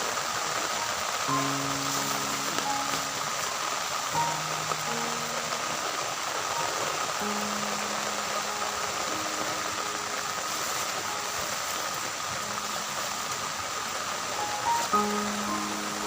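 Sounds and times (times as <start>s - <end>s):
heavy rain hiss: 0.0s - 16.0s
soft background music: 0.1s - 16.0s.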